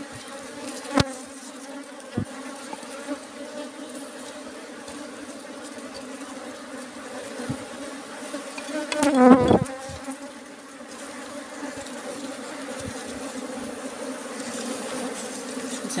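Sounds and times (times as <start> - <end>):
bee swarm humming: 0.0 - 16.0
louder bee buzz: 0.0 - 16.0.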